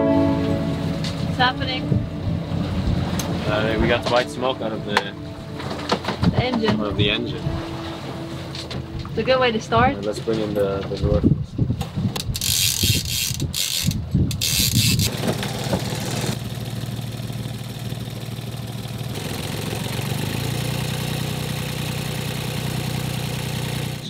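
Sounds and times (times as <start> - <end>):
diesel engine running: 0.0 - 10.3, 15.0 - 24.0.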